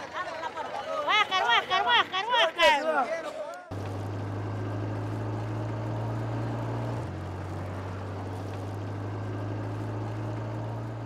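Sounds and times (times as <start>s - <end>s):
minibus engine humming: 0.0s - 11.0s.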